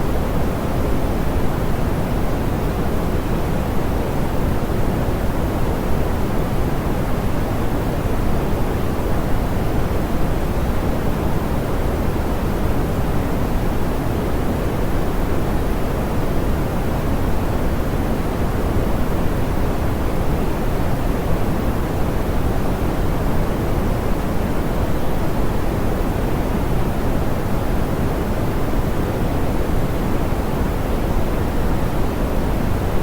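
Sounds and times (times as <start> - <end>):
soft pink noise hiss: 0.0 - 33.0.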